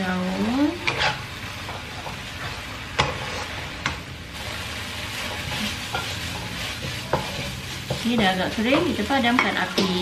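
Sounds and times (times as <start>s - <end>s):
food sizzling in a wok: 0.0s - 10.0s
spatula stirring food: 0.2s - 10.0s.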